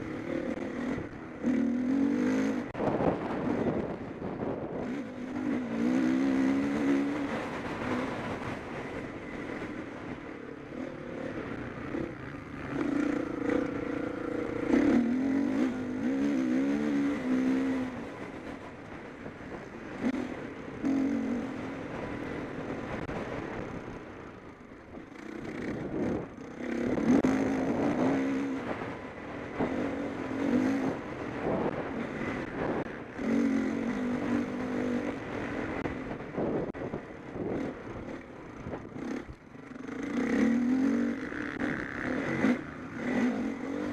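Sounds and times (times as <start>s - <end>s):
motocross bikes revving past: 0.0s - 23.8s, 24.9s - 43.9s.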